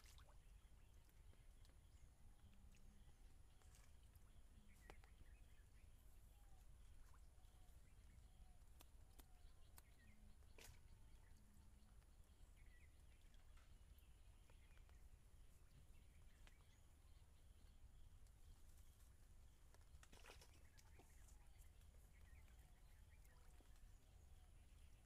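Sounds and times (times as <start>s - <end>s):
faint bird chirps: 0.0s - 25.0s.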